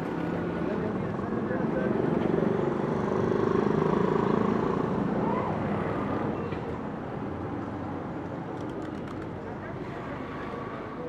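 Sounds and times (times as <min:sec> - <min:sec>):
city street noise: 0:00.0 - 0:11.0.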